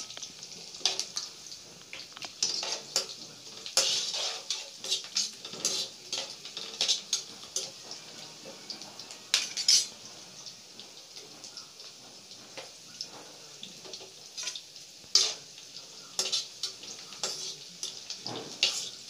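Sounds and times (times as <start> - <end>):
faint sizzle of oil: 0.0 - 19.0
metal spatula scraping a pan: 0.0 - 19.0.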